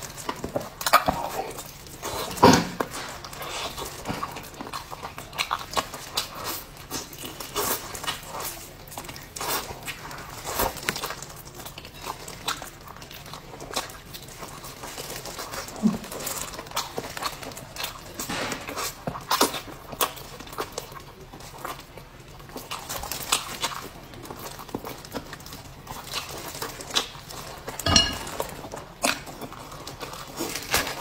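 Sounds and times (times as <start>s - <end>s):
person chewing and smacking: 0.0s - 31.0s.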